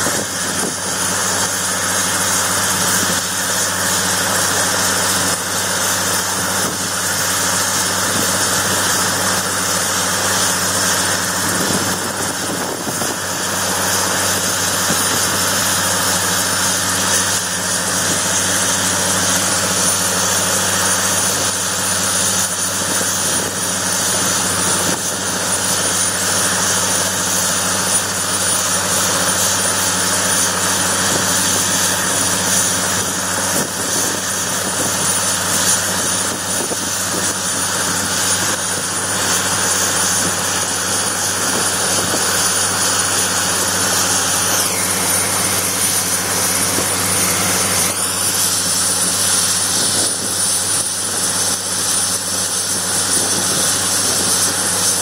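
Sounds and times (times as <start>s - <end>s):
helicopter engine and rotor idling: 0.0s - 55.0s
high-pitched turbine whine: 0.0s - 55.0s.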